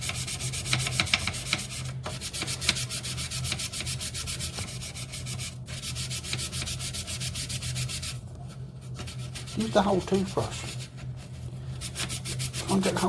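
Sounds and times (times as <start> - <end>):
toothbrush scrubbing plastic: 0.0 - 13.0.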